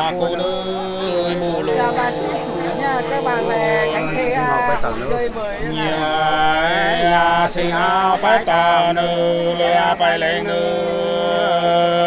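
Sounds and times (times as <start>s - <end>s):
person singing unaccompanied: 0.0s - 12.0s.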